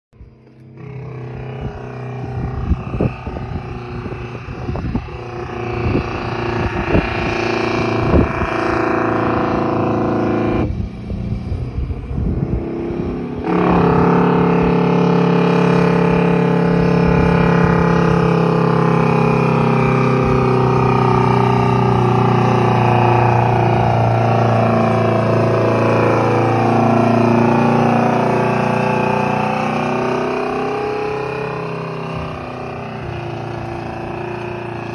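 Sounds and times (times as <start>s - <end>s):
diesel truck engine pulling: 0.2s - 34.9s.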